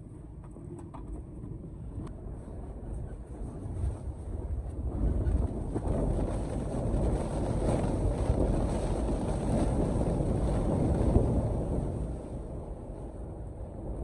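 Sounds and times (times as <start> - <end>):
blizzard wind gusting: 0.0 - 14.0.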